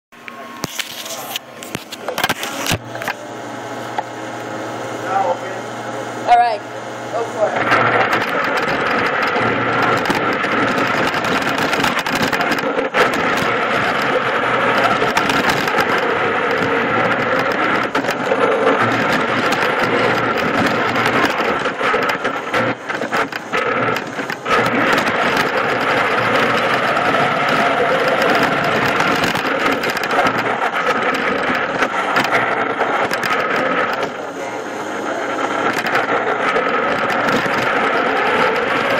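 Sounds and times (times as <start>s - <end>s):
mechanical running noise: 0.2s - 38.9s
robot motor whine: 6.2s - 38.9s.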